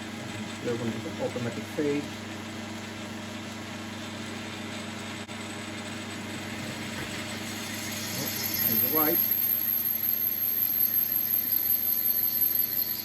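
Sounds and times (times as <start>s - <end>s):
lathe motor humming: 0.0s - 13.0s.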